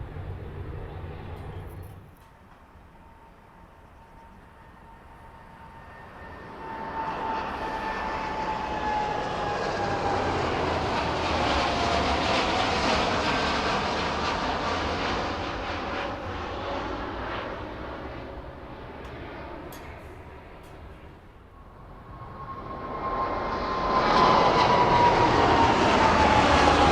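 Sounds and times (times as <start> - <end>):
jet airliner taking off: 0.0 - 26.9
jet engine whine: 0.0 - 26.9.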